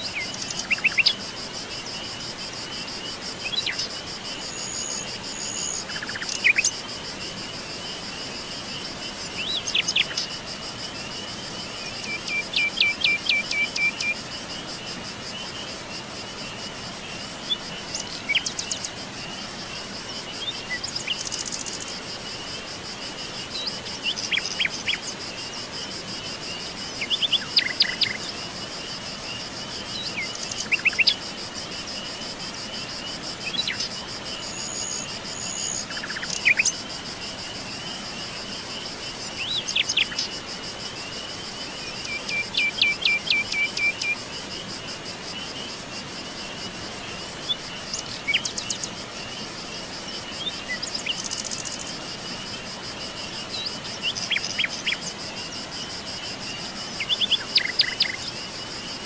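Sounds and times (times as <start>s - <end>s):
insect trill: 0.0s - 59.0s.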